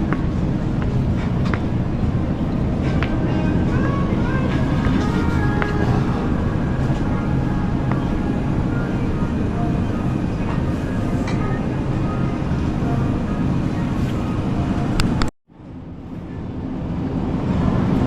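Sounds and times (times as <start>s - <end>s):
faint background music: 0.0s - 17.7s
steady low rumble: 0.0s - 18.0s.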